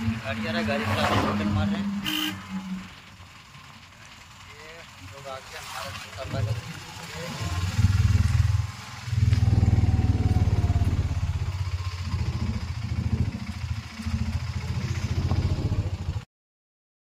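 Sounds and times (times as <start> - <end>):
motorcycle engine running: 1.5 - 16.3.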